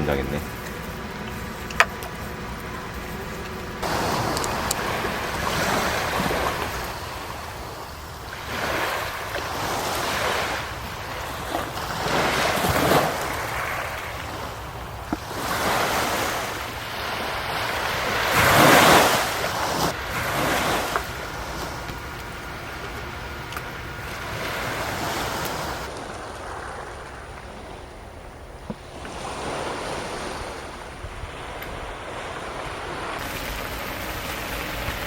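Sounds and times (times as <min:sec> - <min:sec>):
sea waves breaking: 0:00.0 - 0:35.0.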